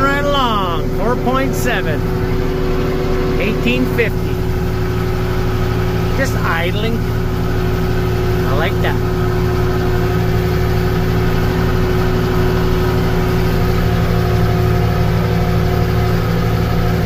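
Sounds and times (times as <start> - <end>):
steady tone: 0.0 - 16.4
tractor engine running: 0.0 - 17.0.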